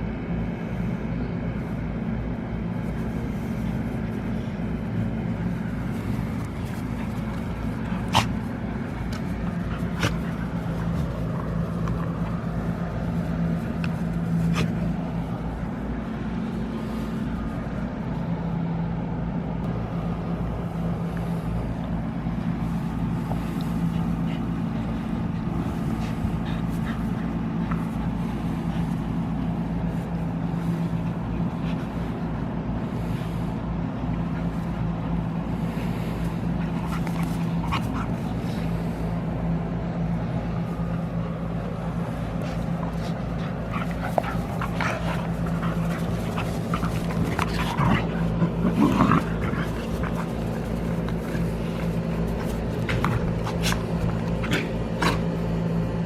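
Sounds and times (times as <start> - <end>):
dogs play-fighting and growling: 0.0 - 56.0
steady low hum: 0.0 - 56.0.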